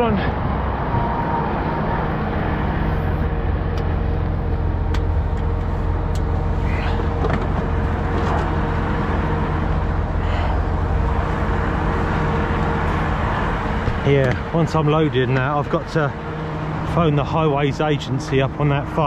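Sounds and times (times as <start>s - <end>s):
diesel truck engine idling: 0.0s - 19.0s
motorway traffic noise: 0.0s - 19.0s.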